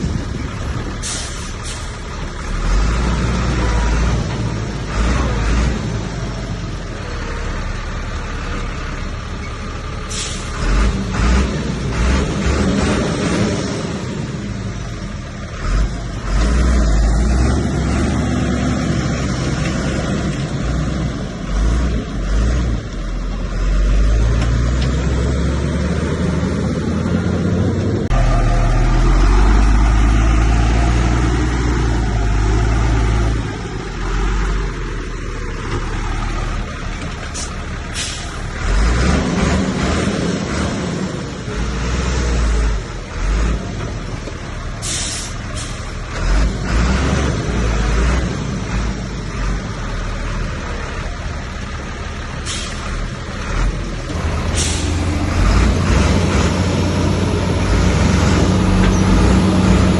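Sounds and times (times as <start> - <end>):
heavy diesel machinery rumbling: 0.0 - 59.9.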